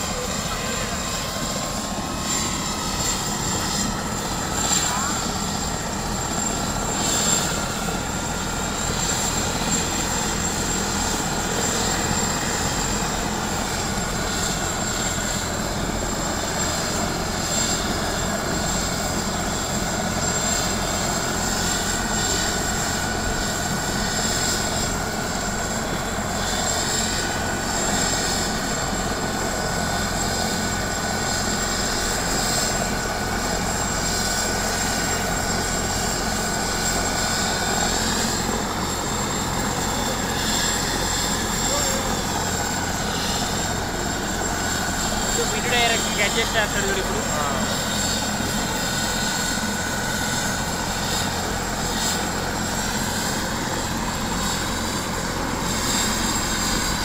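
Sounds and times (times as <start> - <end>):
helicopter rotor and turbine whine: 0.0 - 57.0.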